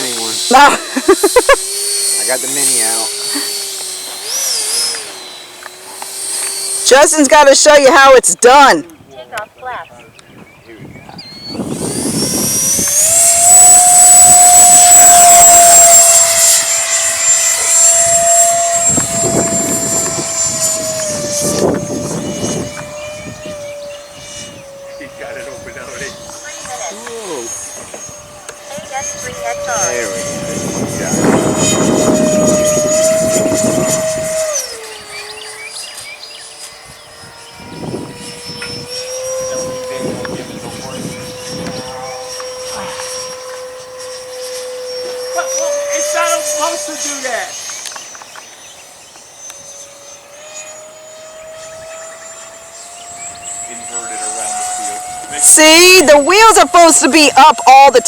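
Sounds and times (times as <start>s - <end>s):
electric jet fan whine: 0.0s - 58.0s
wind rumbling on microphone: 8.7s - 58.0s.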